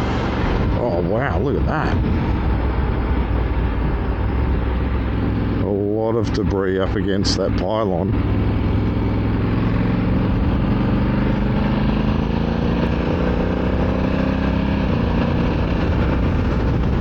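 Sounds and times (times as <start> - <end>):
motorcycle engine running steadily: 0.0 - 17.0
wind and road noise: 0.0 - 17.0.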